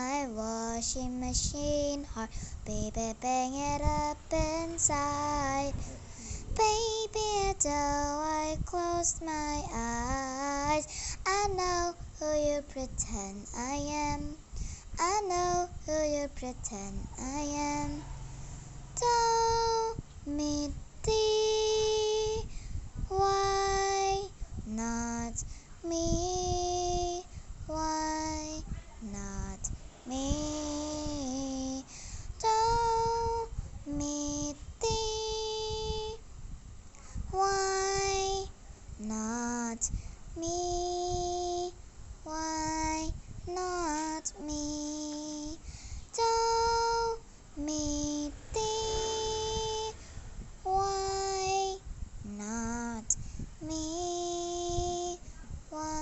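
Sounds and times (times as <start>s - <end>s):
person singing a cappella: 0.0s - 36.2s, 37.2s - 50.0s, 50.6s - 56.0s.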